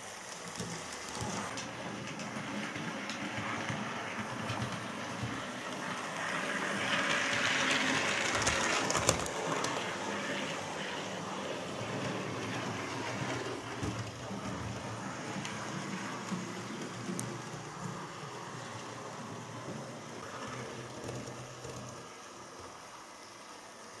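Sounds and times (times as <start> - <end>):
model train motor whirring: 0.0 - 23.8.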